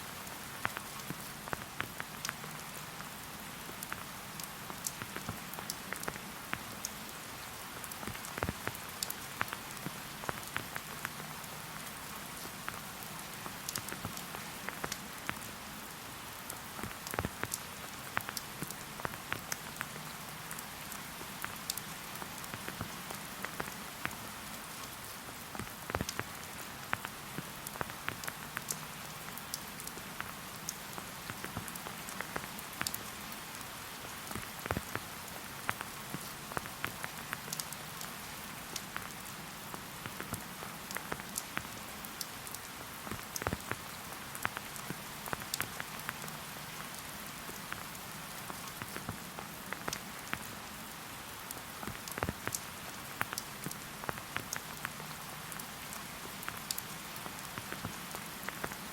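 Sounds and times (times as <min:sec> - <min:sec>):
raindrops pattering on leaves: 0:00.0 - 0:58.9
steady rain hiss: 0:00.0 - 0:58.9.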